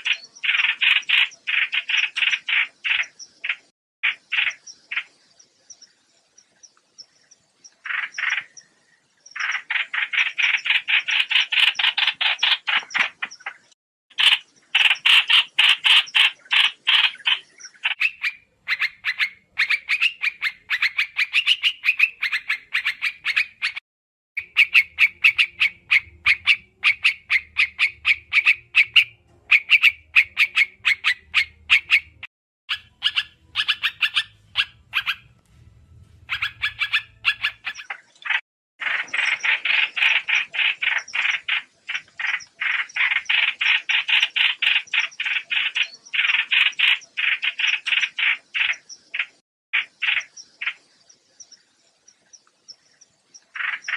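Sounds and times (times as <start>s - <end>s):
birds chattering rapidly: 0.0s - 23.8s, 24.4s - 35.4s, 36.1s - 53.9s.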